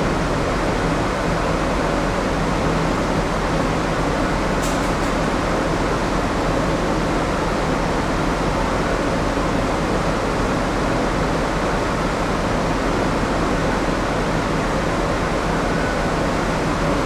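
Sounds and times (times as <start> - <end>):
air conditioning rushing: 0.0 - 17.0
low machinery hum: 0.0 - 17.0.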